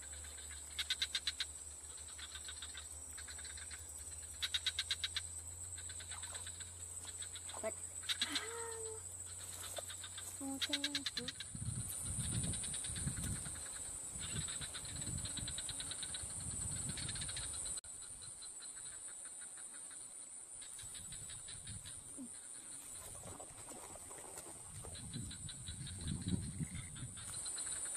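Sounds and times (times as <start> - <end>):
fast pulsing insect chirps: 0.0 - 23.1, 24.9 - 27.9
insects high-pitched drone: 0.0 - 27.9.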